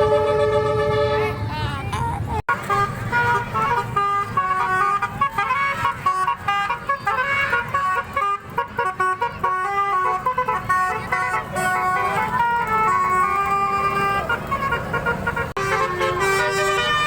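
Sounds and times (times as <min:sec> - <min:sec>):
musical air horns playing tune: 0:00.0 - 0:01.4, 0:02.5 - 0:17.0.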